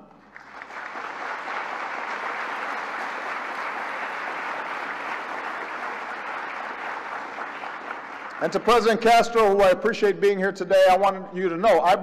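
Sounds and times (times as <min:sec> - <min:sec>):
large audience applauding: 0:00.0 - 0:09.7.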